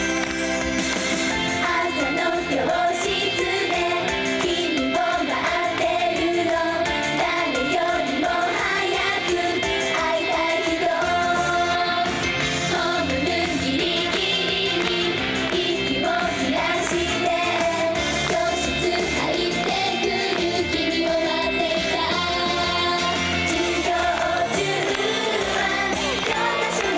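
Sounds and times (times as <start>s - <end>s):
pop backing music: 0.0s - 26.9s
girls singing pop song: 1.5s - 26.9s.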